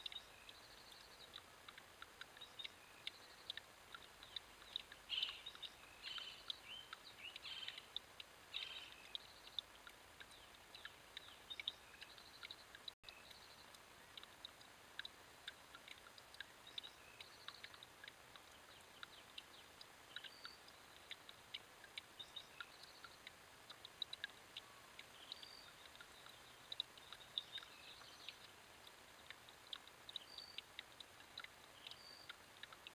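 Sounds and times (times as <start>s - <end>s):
small birds chipping: 0.0s - 33.0s
steady low hiss: 0.0s - 33.0s.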